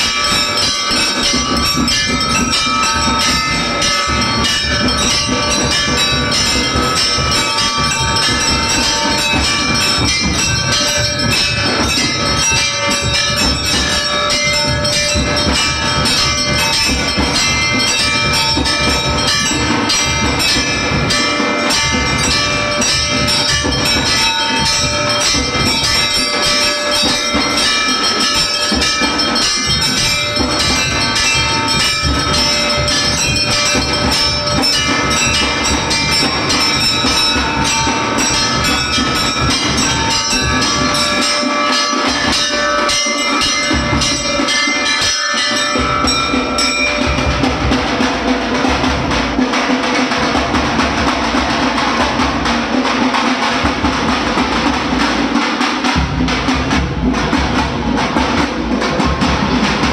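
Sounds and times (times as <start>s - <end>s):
fast clattering beat: 0.0s - 59.9s
temple bells ringing: 0.0s - 59.9s.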